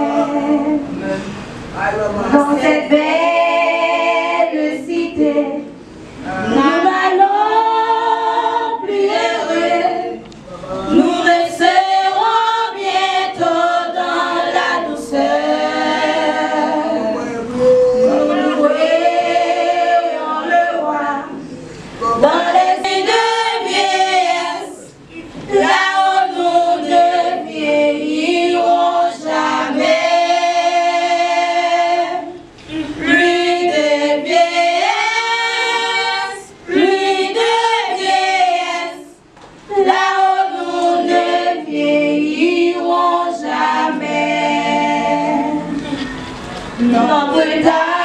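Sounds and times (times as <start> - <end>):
group singing a hymn a cappella: 0.0 - 48.0.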